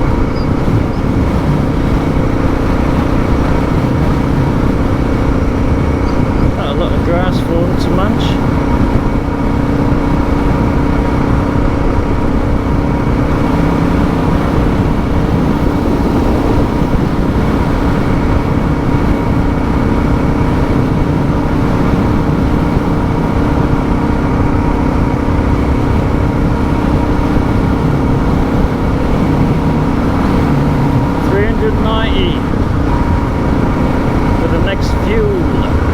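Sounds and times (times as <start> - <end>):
motorcycle engine cruising: 0.0 - 35.9
road rumble: 0.0 - 35.9
wind on microphone: 0.0 - 35.9.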